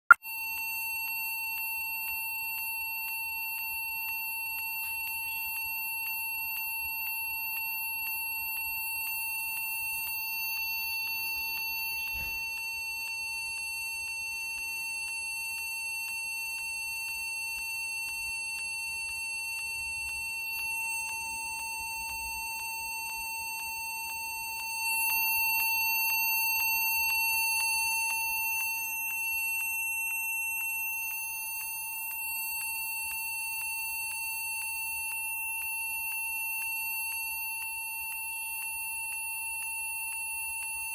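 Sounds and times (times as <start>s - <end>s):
computer beeping continuously: 0.1s - 40.9s.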